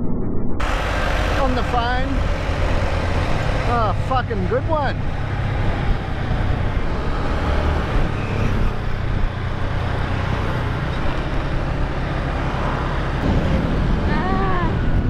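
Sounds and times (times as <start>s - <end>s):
wind noise: 0.0s - 12.1s, 13.2s - 15.0s
motorbike engine hum: 0.6s - 15.0s
road noise: 0.6s - 15.0s.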